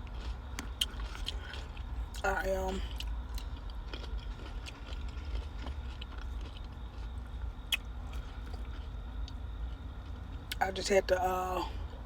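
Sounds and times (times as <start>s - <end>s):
person chewing crunchy food: 0.0s - 10.6s
steady low rumble: 0.0s - 12.0s.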